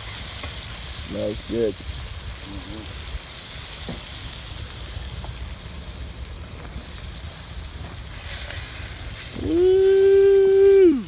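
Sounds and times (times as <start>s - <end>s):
food sizzling on a grill: 0.0s - 11.0s.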